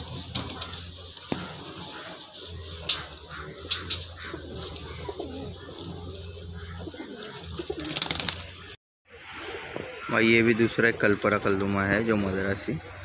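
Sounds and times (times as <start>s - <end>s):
pigeons cooing: 0.0s - 11.8s.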